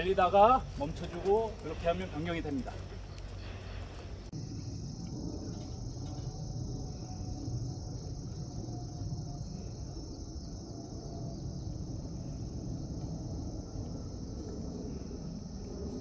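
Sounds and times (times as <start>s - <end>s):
high-pitched insect chorus: 0.0s - 16.0s
low uneven rumble: 0.0s - 16.0s.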